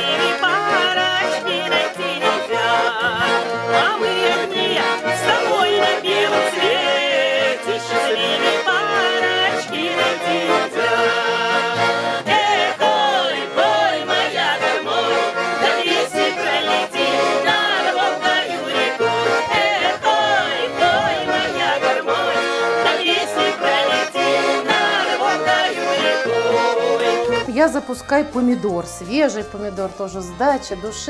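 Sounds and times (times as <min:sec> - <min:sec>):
person singing: 0:00.0 - 0:27.5
acoustic guitar: 0:00.0 - 0:31.0
button accordions playing: 0:00.0 - 0:31.0.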